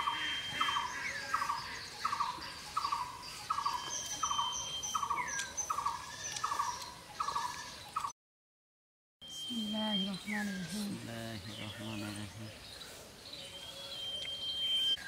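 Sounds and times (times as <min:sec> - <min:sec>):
birds chirping and whistling: 0:00.0 - 0:08.1, 0:09.2 - 0:15.0.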